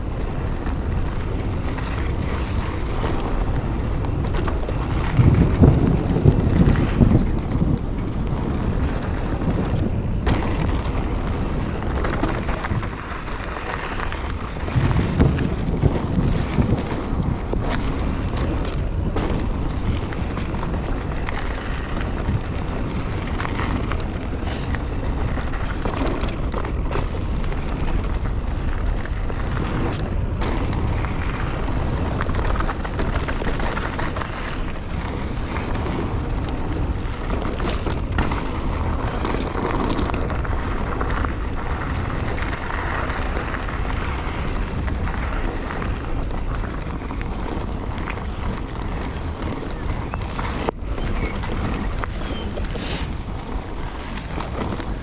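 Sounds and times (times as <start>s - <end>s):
bike tyre noise: 0.0s - 55.0s
wind noise: 0.0s - 55.0s.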